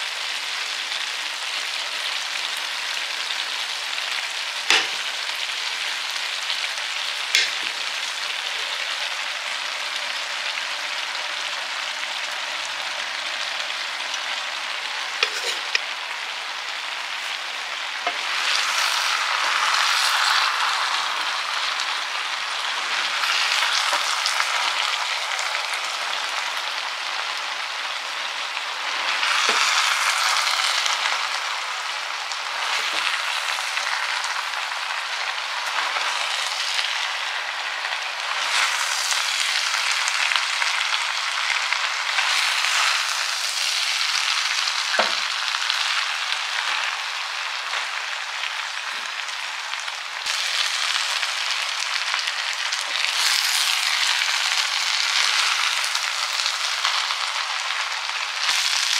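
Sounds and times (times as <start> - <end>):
fried rice sizzling in pan: 0.0 - 58.9.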